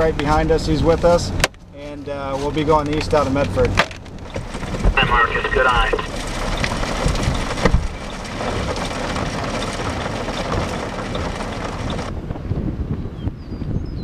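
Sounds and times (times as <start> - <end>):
road and wind noise in vehicle: 0.0 - 14.0.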